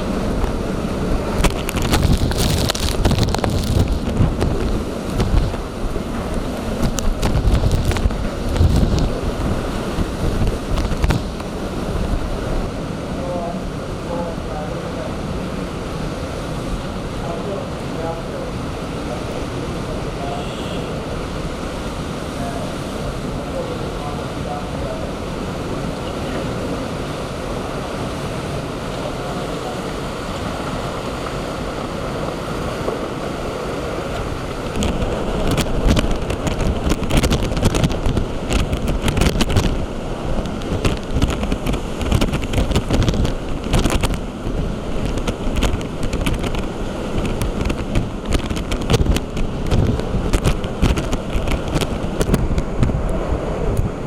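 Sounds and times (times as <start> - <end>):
waves and wind rushing: 0.0 - 54.0
wind gusts buffeting microphone: 0.0 - 54.0.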